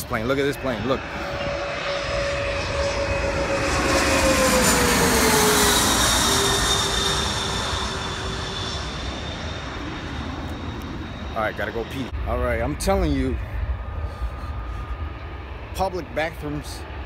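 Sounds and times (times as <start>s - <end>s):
jet engine whine dropping in pitch: 0.0s - 17.0s
jet plane passing overhead: 0.0s - 17.0s.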